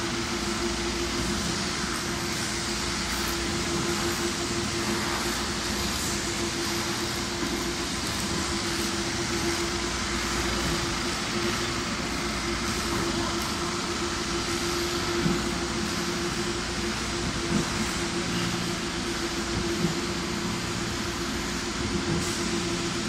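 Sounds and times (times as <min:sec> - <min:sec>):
concrete pump drone: 0:00.0 - 0:23.0.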